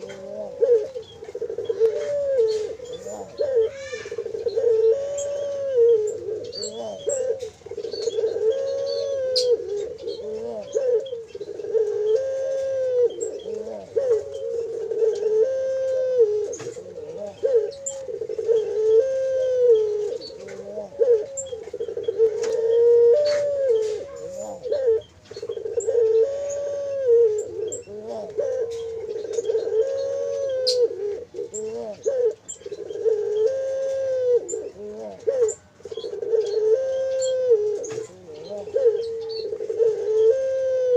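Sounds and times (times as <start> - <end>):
small birds chirping and whistling: 0.0 - 15.3, 16.4 - 40.9
doves cooing: 0.0 - 40.9.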